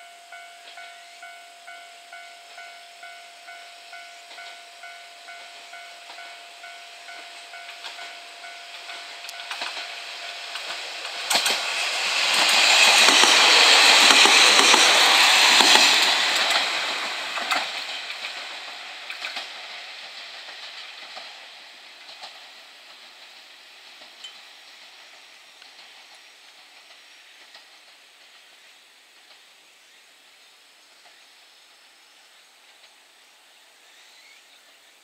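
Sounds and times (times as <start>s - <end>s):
diesel train passing: 0.0s - 35.0s
wheel clacks on rail: 0.3s - 28.5s.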